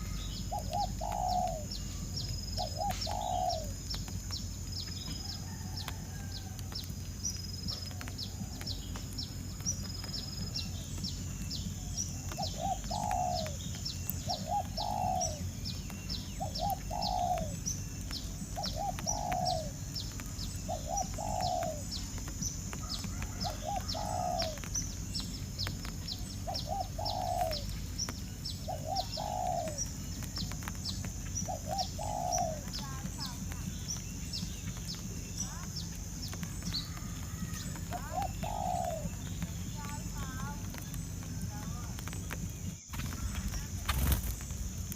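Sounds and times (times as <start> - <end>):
low bird call: 0.0 - 6.7, 7.3 - 44.9.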